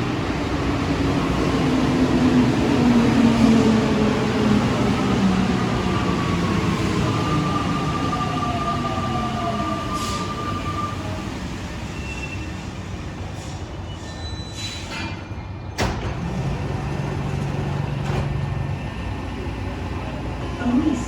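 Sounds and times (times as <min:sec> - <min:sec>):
metro train running: 0:00.0 - 0:21.0.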